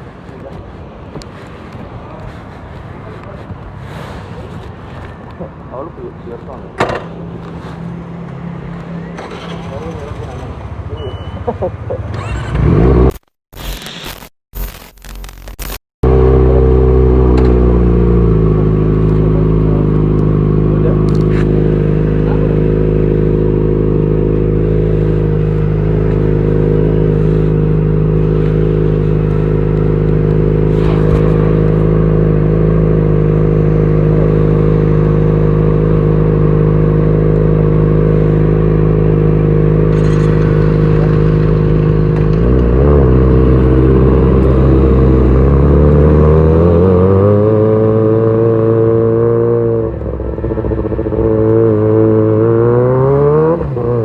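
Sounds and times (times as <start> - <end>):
motorcycle engine idling and revving: 0.0 - 13.3, 16.0 - 54.0.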